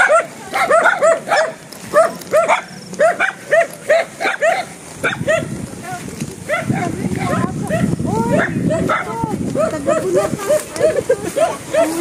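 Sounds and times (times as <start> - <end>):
dog barking: 0.0 - 5.6, 6.5 - 12.0.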